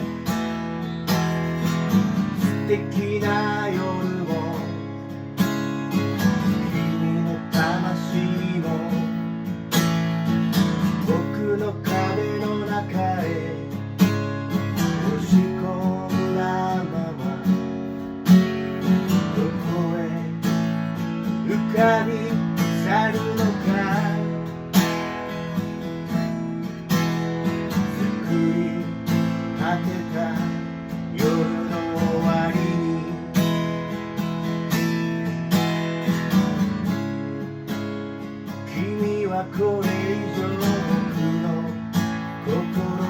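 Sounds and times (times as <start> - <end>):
acoustic guitar strumming: 0.0 - 43.0
bending guitar melody: 0.0 - 43.0.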